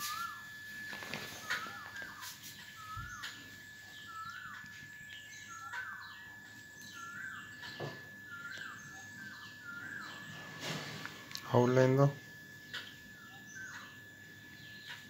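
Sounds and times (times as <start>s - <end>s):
bird calling: 0.0s - 15.0s
faint high chirps: 0.0s - 15.0s
steady thin high tone: 0.0s - 15.0s.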